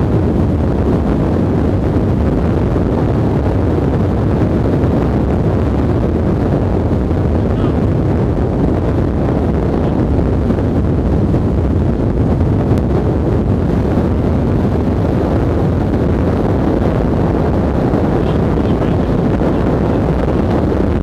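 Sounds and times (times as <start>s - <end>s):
wind and road noise: 0.0s - 21.0s
wind buffeting microphone: 0.0s - 21.0s.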